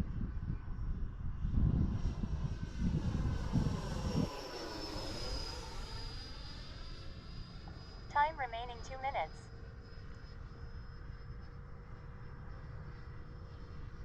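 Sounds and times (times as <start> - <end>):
model jet fan whine passing: 0.1 - 8.1, 9.5 - 14.0.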